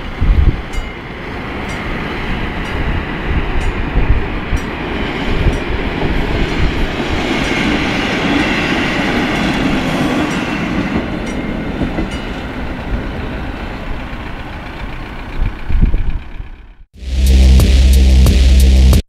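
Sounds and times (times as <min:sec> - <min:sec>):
railcar engine and wheels rumbling: 0:00.0 - 0:17.5.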